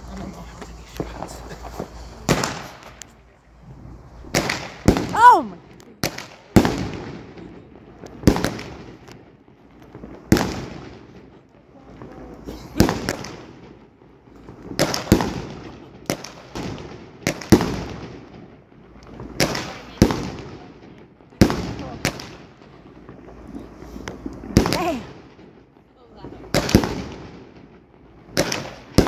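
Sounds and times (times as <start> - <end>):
fireworks bangs with echo: 0.1 - 29.0.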